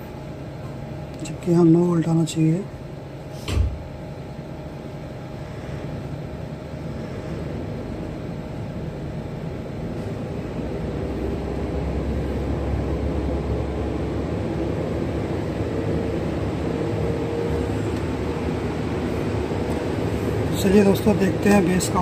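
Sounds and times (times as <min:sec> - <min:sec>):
amplifier cooling fans whirring: 0:00.0 - 0:22.0.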